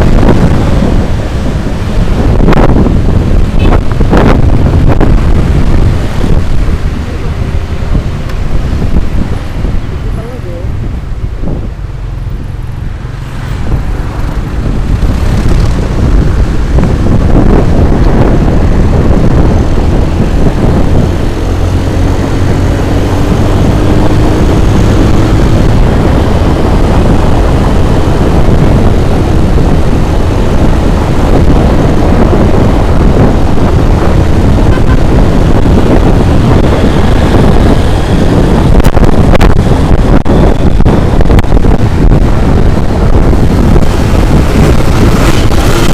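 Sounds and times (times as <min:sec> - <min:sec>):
road and engine noise: 0:00.0 - 0:45.9
wind buffeting microphone: 0:00.0 - 0:45.9.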